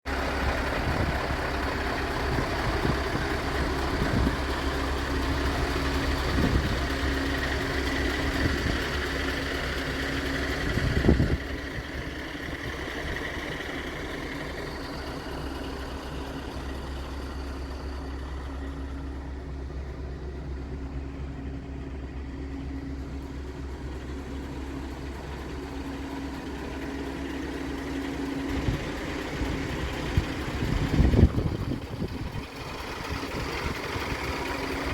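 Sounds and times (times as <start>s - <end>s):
truck diesel engine idling: 0.1s - 34.9s.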